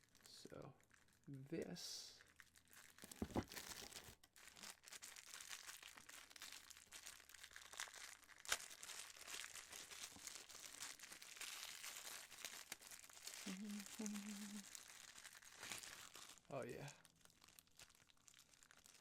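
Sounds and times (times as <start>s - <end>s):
plastic packaging crinkling: 0.8s - 1.3s, 2.2s - 19.0s.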